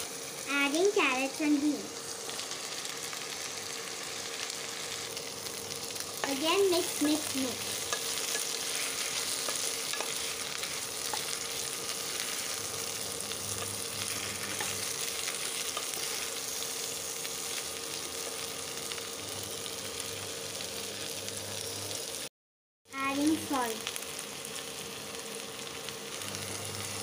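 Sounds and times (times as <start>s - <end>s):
vegetables sizzling in oil: 0.0s - 22.3s, 22.9s - 27.0s.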